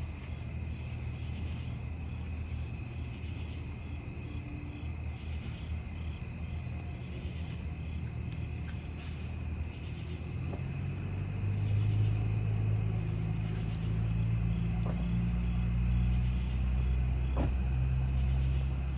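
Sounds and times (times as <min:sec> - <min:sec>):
campfire rumble: 0:00.0 - 0:18.9
crickets chirring: 0:00.0 - 0:18.9
fire crackle: 0:00.0 - 0:18.9.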